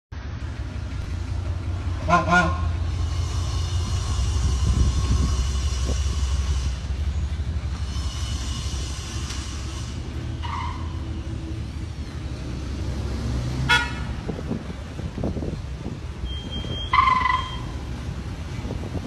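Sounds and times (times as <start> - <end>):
truck engine rumbling: 0.1 - 19.0.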